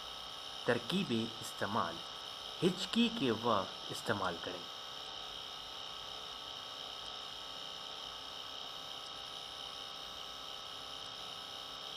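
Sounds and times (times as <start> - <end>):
electrical hum and hiss: 0.0 - 11.9.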